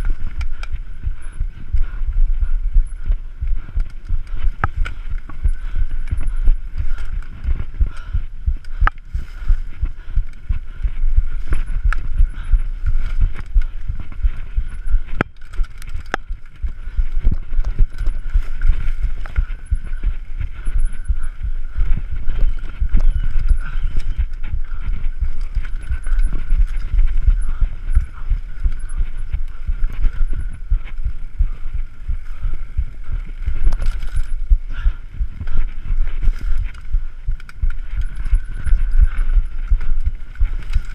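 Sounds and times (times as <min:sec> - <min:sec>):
tyres over dirt and roots: 0:00.0 - 0:40.9.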